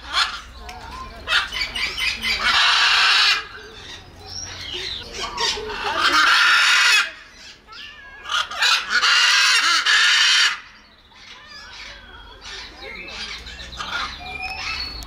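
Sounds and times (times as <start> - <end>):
soft short macaw calls: 1.3 - 4.0, 5.2 - 14.8
macaw squawking: 1.3 - 14.9.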